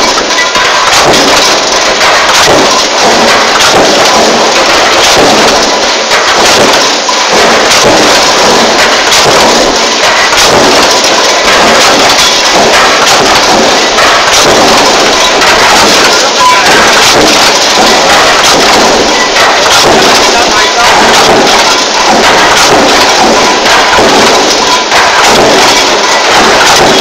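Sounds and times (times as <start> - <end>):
power press roaring: 0.0 - 27.0.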